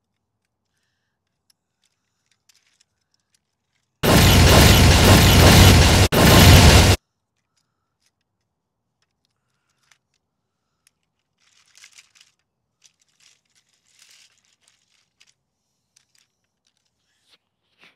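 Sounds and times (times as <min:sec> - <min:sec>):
toy train clicks and rustles: 0:00.0 - 0:04.0, 0:07.0 - 0:17.9.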